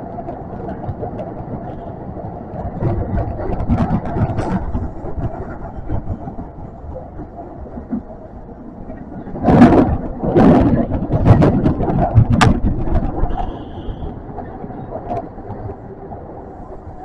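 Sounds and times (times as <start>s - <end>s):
train rumbling in tunnel: 0.0s - 17.0s.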